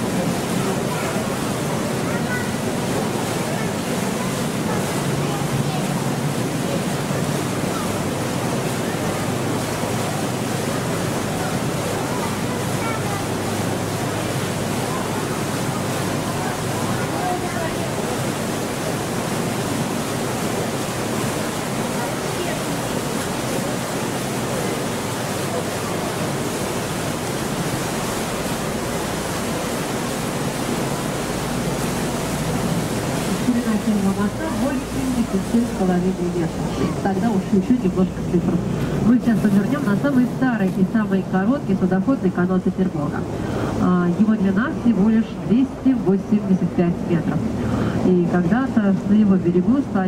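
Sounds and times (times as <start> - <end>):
low engine drone: 0.0 - 50.0
water rushing along hull: 0.0 - 50.0.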